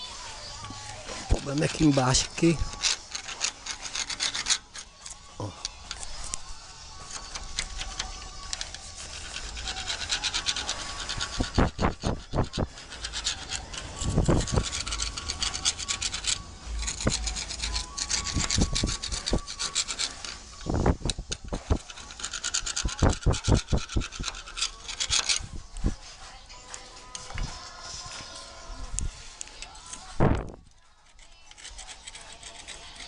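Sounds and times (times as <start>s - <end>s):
scraper scraping iron railing: 0.0s - 33.0s.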